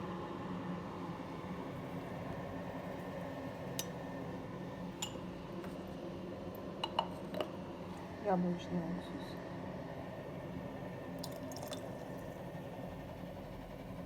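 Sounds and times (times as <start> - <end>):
electric kettle heating water: 0.0 - 14.0.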